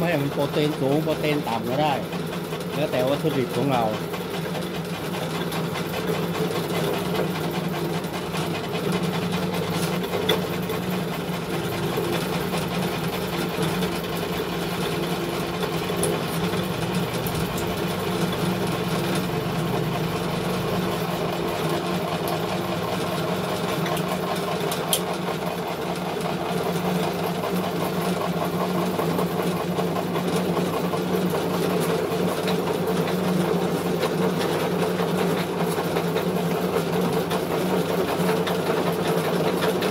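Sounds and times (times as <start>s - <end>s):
pellet mill humming: 0.0s - 39.9s.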